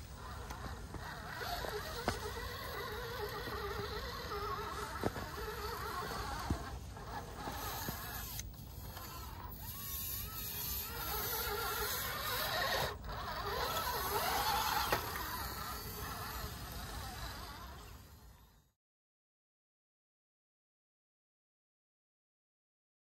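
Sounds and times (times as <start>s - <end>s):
rc car motor whining: 0.0s - 18.8s.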